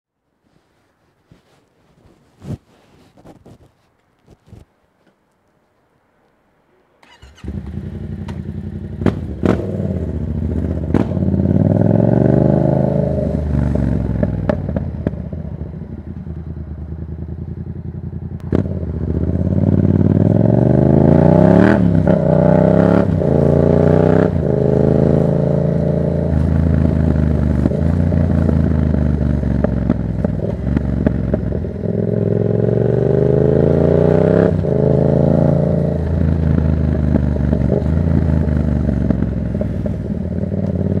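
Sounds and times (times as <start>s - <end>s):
motorcycle engine revving: 7.0s - 41.0s.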